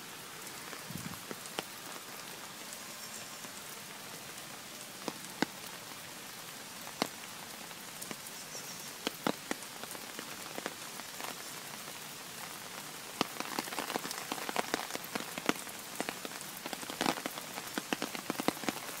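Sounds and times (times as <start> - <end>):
heavy rain hiss: 0.0 - 19.0
raindrops tapping close by: 0.0 - 19.0.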